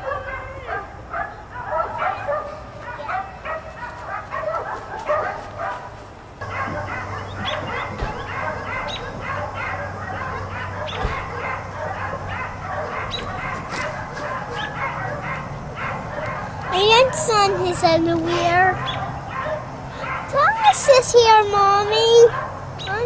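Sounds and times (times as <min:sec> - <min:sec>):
dogs barking and yapping: 0:00.0 - 0:23.0
steady low hum: 0:01.0 - 0:20.4.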